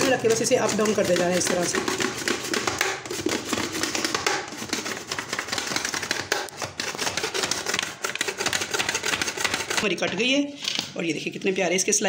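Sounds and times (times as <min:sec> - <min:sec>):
vegetable slicer clicking and scraping: 0:00.0 - 0:10.0.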